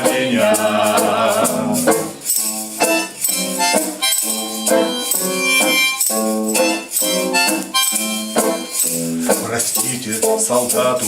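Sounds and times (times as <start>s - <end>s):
acoustic chords strummed: 0.0s - 11.0s.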